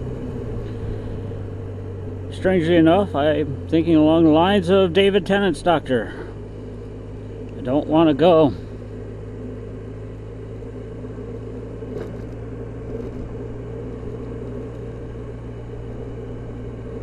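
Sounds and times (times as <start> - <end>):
road and wind noise: 0.0 - 17.0
scooter engine running: 0.0 - 17.0.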